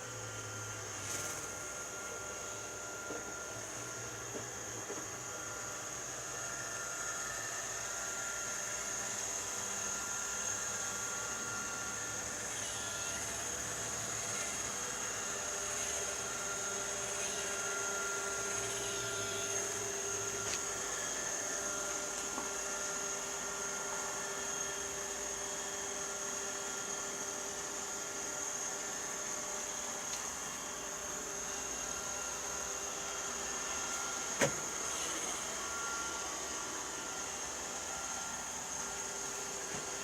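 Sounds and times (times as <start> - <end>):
robot vacuum motor whine: 0.0 - 40.0.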